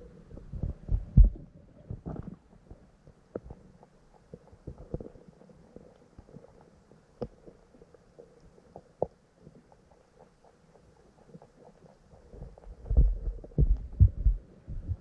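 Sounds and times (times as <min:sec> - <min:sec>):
muffled stream water: 0:00.0 - 0:15.0.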